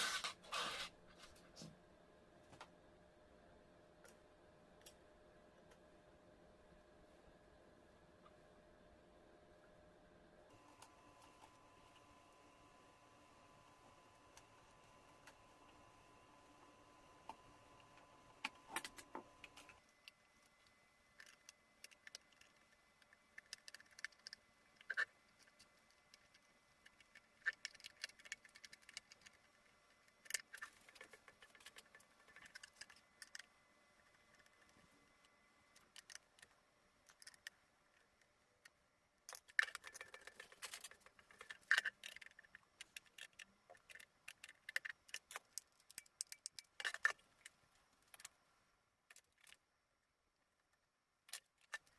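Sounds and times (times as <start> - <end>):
faint hum: 0.0 - 51.9.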